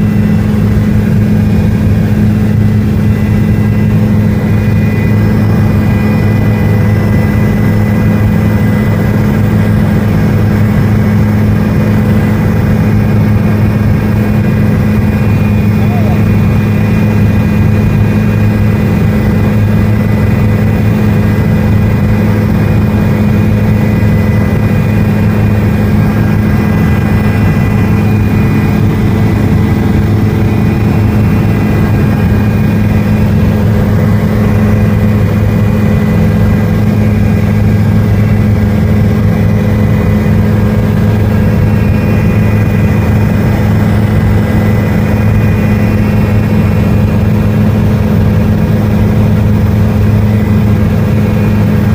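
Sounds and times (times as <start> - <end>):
helicopter engine and rotor drone: 0.0 - 51.9.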